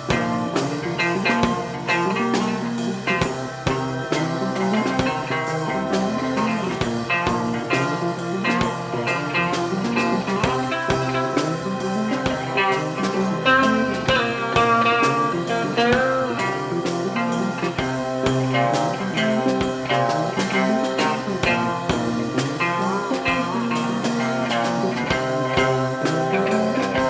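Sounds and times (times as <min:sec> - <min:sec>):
rock band music: 0:00.0 - 0:27.0.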